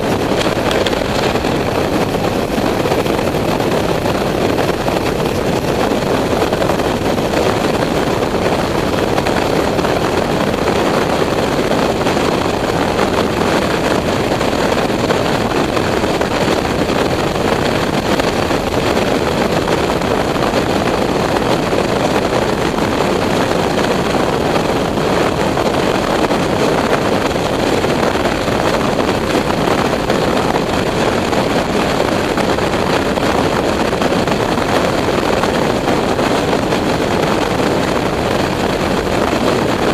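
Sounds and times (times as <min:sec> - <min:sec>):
motorcycle running: 0:00.0 - 0:39.9
wind rushing: 0:00.0 - 0:39.9.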